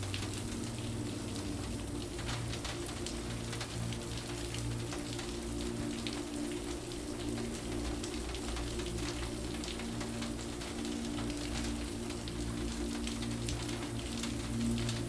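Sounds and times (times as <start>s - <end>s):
calm music with held notes: 0.0s - 15.0s
rain drops ticking: 0.0s - 15.0s.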